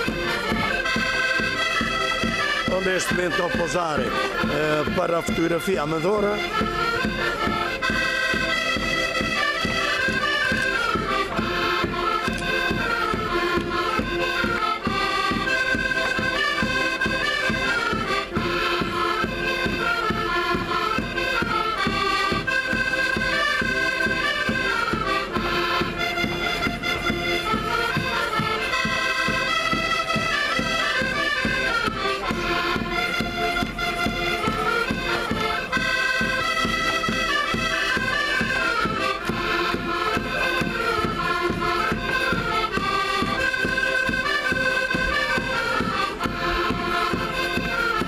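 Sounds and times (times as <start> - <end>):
accordion-like reed melody: 0.0 - 48.0
steady drumbeat: 0.0 - 48.0.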